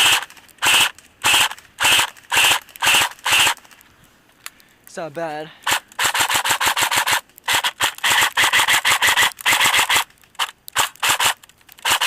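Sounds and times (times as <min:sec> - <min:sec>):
airsoft gun firing bursts: 0:00.0 - 0:03.6, 0:05.6 - 0:12.0.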